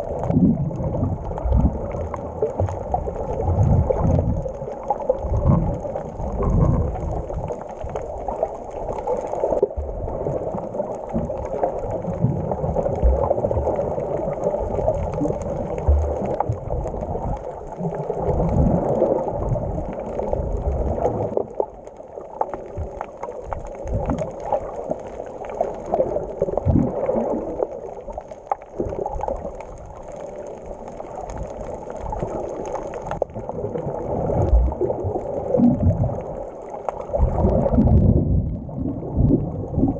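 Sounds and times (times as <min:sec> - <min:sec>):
underwater rush of water: 0:00.0 - 0:39.9.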